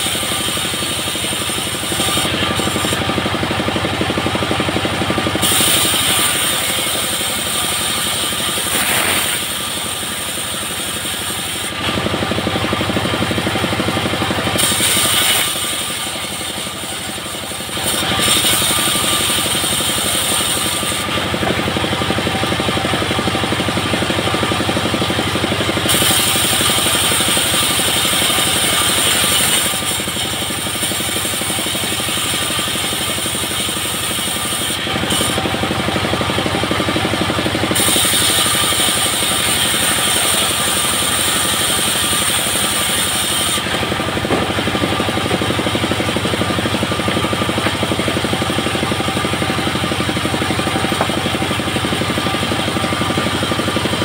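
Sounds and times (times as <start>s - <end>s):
saw blade cutting wood hiss: 0.0s - 3.7s, 5.0s - 12.2s, 13.4s - 22.0s, 25.6s - 36.2s, 37.3s - 54.0s
bandsaw mill engine running: 0.0s - 54.0s.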